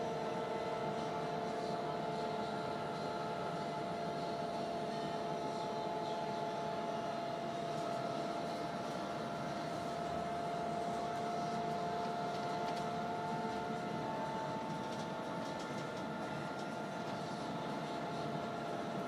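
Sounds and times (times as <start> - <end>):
electric bus drive whine: 0.0 - 19.0.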